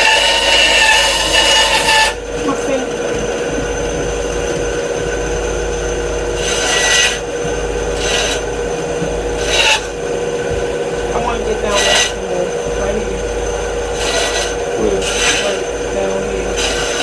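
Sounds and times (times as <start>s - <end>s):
band saw cutting wood: 0.0s - 17.0s.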